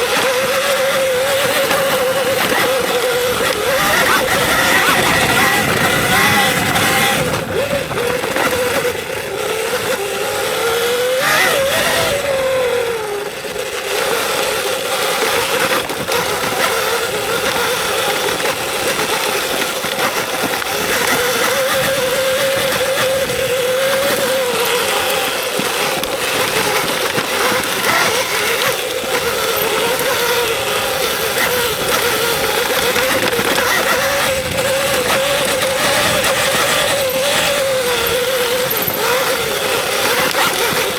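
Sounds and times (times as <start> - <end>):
electric dirt bike motor whining: 0.0 - 40.9
wind and tyre noise: 0.0 - 40.9.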